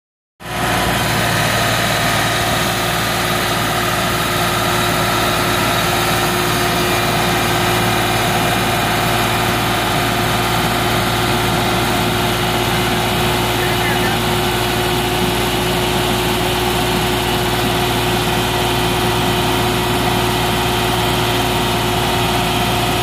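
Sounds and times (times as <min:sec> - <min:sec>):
loader engine idling: 0:00.4 - 0:23.0.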